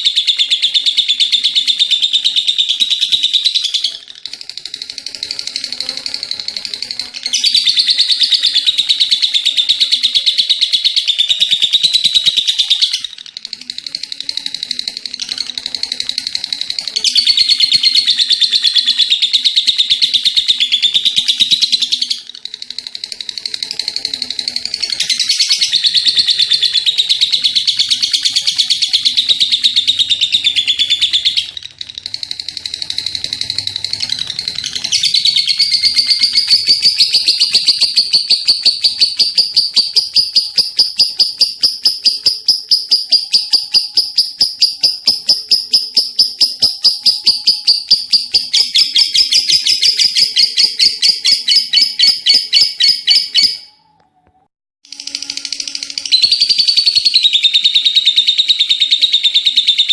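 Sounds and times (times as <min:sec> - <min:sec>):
lovebird chattering: 0:00.0 - 0:53.7
lovebird rattling trill: 0:00.0 - 0:53.7, 0:54.9 - 0:59.9.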